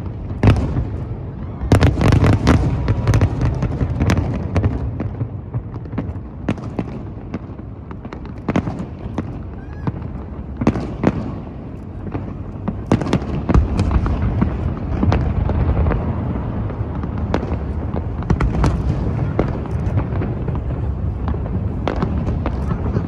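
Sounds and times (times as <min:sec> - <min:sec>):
fireworks bangs and crackles: 0:00.0 - 0:23.0
low rumble of distant bursts: 0:00.0 - 0:23.0.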